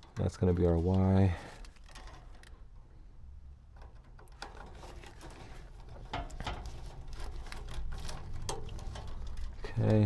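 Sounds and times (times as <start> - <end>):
hands handling wires: 0.0 - 2.8, 3.6 - 10.0.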